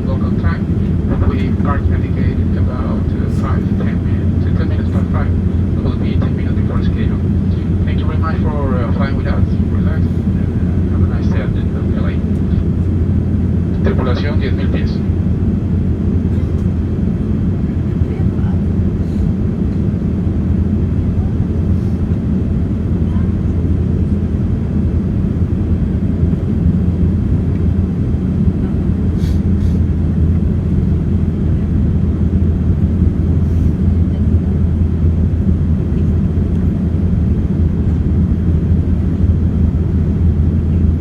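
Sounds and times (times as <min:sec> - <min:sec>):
airplane cabin roar: 0:00.0 - 0:41.0.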